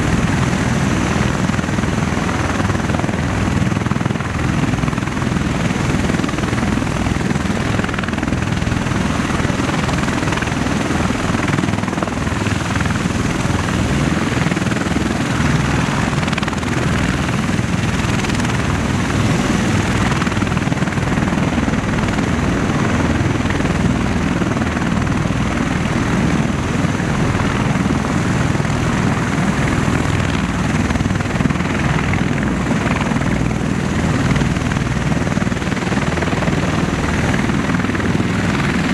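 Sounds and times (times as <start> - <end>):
aircraft rotors and engines running: 0.0 - 38.9.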